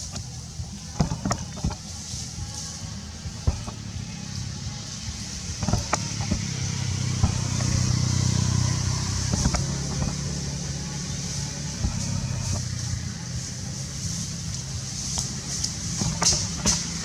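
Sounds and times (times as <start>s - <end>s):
steady high hiss: 0.0s - 17.0s
vehicle engine running: 0.0s - 17.0s.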